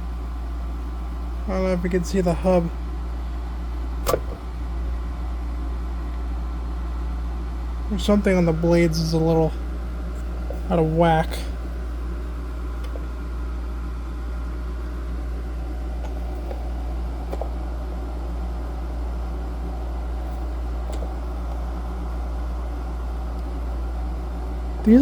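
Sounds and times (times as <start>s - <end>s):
desk fan humming: 0.0s - 25.0s.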